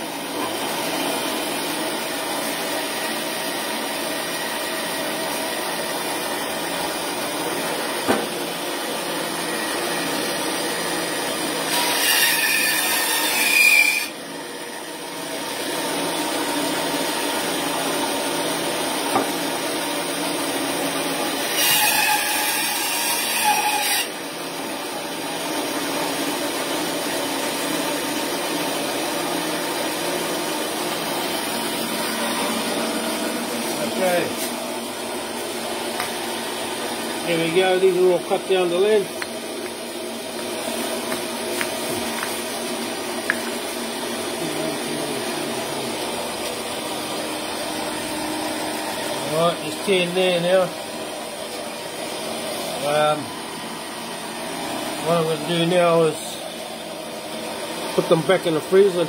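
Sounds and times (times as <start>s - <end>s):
bandsaw cutting bone: 0.0s - 52.8s
bandsaw running: 0.0s - 59.0s.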